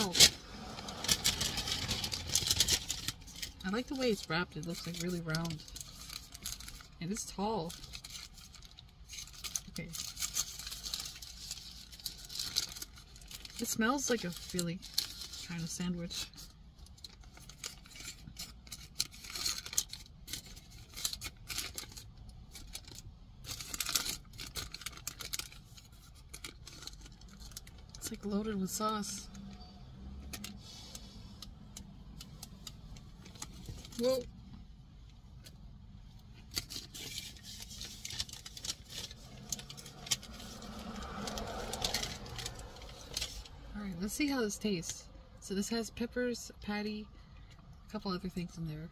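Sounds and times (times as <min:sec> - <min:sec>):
paper wrapper crinkling: 0:00.0 - 0:34.4, 0:35.4 - 0:43.7.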